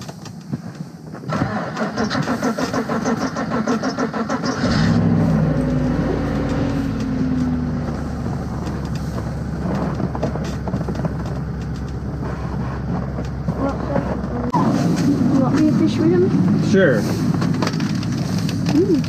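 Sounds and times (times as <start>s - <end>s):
diesel truck engine cranking and starting: 1.3s - 19.0s.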